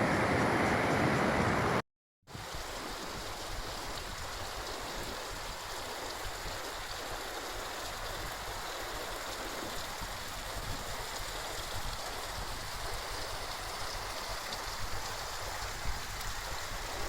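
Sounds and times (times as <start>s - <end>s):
creek flowing: 0.0s - 17.0s.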